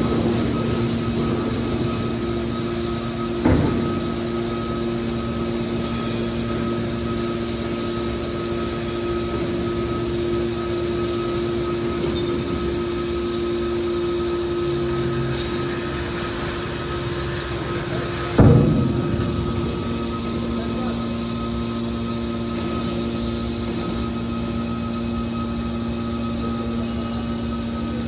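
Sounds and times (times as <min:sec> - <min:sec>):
constant tones: 0:00.0 - 0:26.1
baler machine humming: 0:00.0 - 0:28.0.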